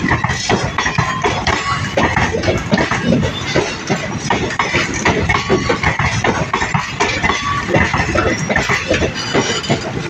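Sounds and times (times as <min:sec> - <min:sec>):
train wheels clattering on track: 0:00.0 - 0:10.0.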